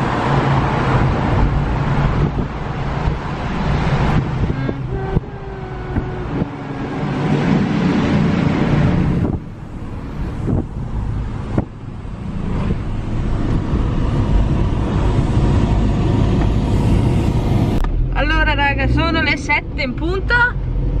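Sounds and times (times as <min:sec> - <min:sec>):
car road noise in tunnel: 0:00.0 - 0:21.0.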